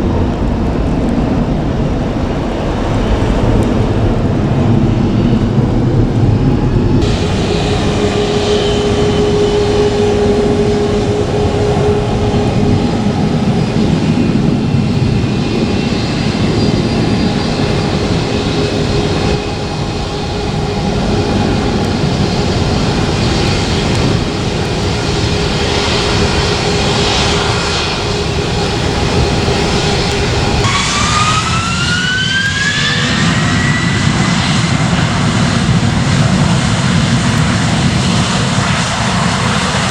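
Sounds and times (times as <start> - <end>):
jet engines running: 0.0 - 39.9
rising whine: 2.2 - 39.9.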